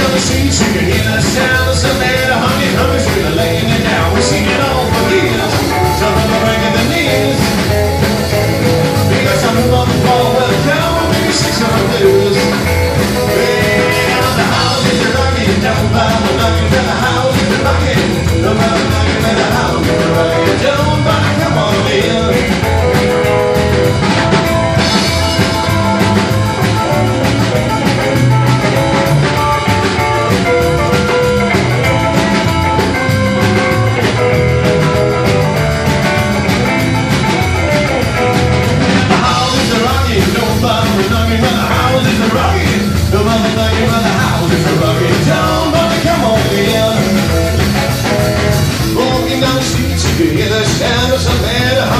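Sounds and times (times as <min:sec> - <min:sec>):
drum kit: 0:00.0 - 0:51.9
electric guitar: 0:00.0 - 0:51.9
upright double bass: 0:00.0 - 0:51.9.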